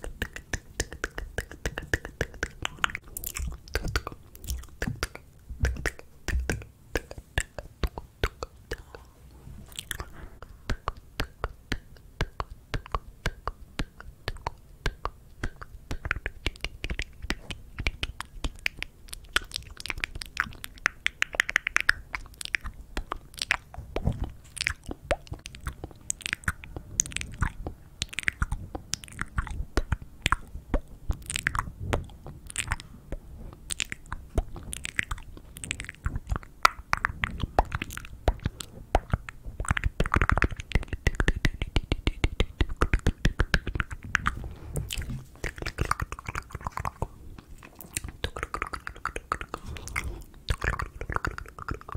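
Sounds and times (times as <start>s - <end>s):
lip and tongue clicks: 0.0s - 9.1s, 9.7s - 51.9s.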